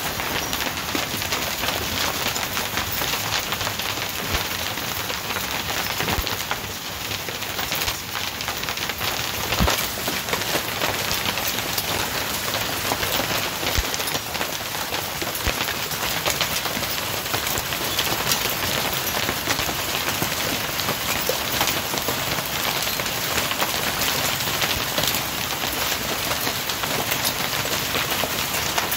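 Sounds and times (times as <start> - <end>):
hail and rain pattering: 0.0 - 28.9.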